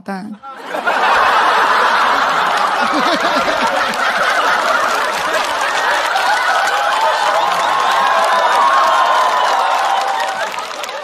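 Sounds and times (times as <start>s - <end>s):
audience laughing loudly: 0.4s - 11.0s.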